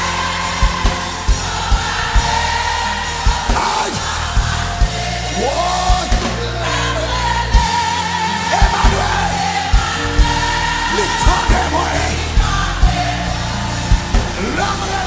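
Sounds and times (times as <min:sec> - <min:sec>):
singer and choir singing: 0:00.0 - 0:15.0
steady drum beat: 0:00.0 - 0:15.0.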